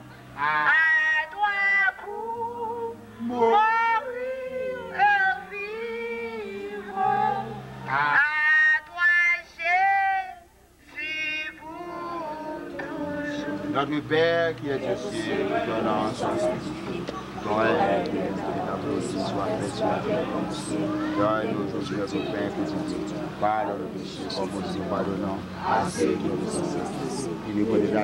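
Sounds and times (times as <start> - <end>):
woman singing through a megaphone: 0.3 - 28.0.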